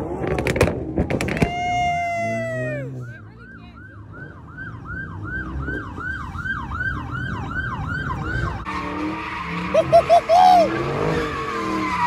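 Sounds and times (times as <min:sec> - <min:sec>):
low rumble of car engines: 0:00.0 - 0:12.0
police siren fast yelp: 0:01.5 - 0:12.0.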